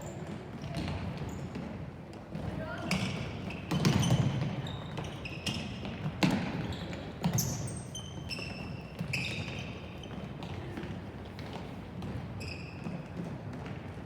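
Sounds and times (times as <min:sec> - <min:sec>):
shoes squeaking on court floor: 0:00.0 - 0:14.0.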